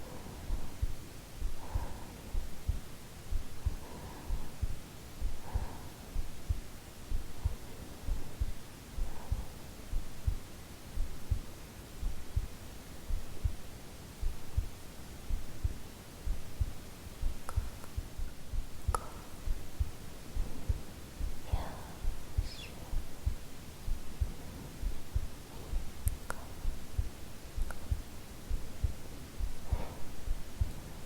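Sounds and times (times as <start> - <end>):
heartbeat thumps: 0.0 - 31.0.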